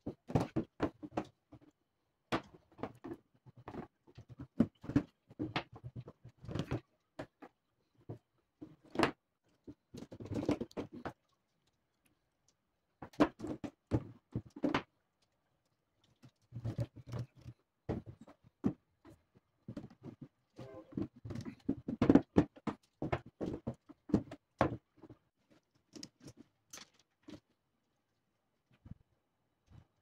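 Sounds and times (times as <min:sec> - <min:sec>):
plastic pipes clicking and scraping: 0:00.0 - 0:27.7.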